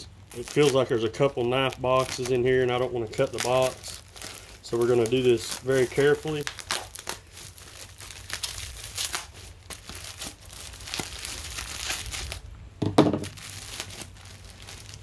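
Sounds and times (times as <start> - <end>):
plastic crinkling: 0.0 - 15.0
knife slitting plastic package: 0.3 - 12.4.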